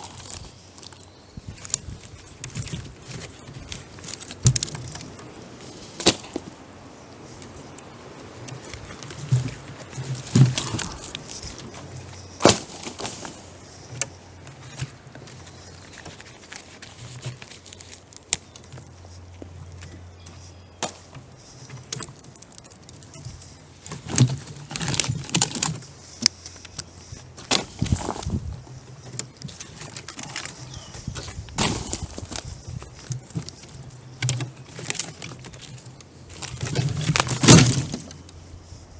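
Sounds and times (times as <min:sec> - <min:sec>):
branches and logs knocking: 0:00.0 - 0:06.6, 0:07.3 - 0:38.4.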